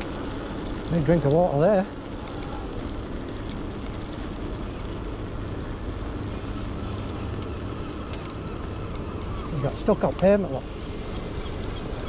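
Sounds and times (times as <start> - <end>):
bike tyre noise on tarmac: 0.0 - 12.0.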